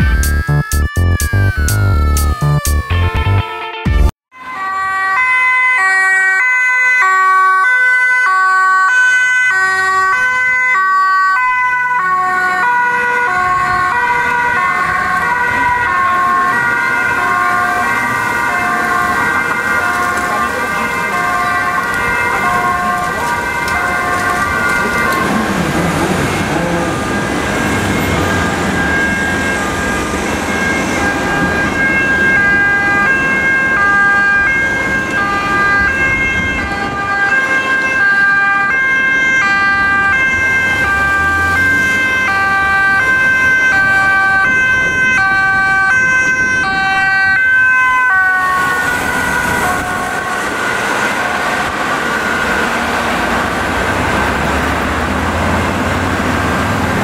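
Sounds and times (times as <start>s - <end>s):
ambulance two-tone siren: 0.0s - 57.0s
traffic noise: 4.3s - 57.0s.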